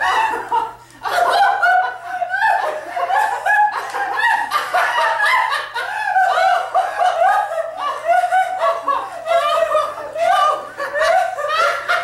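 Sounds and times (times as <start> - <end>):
man and woman laughing: 0.0 - 12.0.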